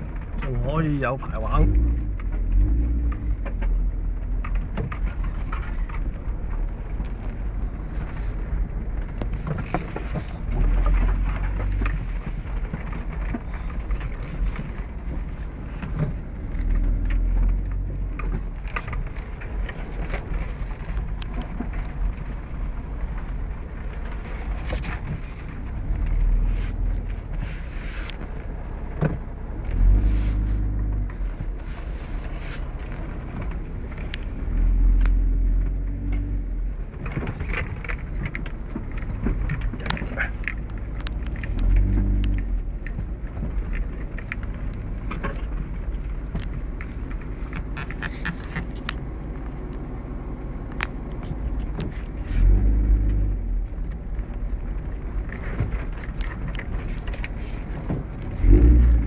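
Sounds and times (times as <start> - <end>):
off-road vehicle engine labouring: 0.0 - 59.0.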